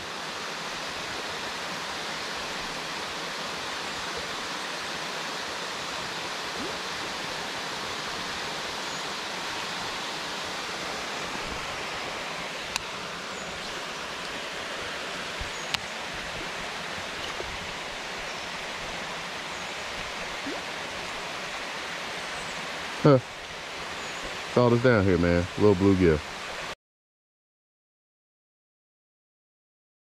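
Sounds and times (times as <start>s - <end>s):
water rushing over spillway: 0.0s - 26.8s.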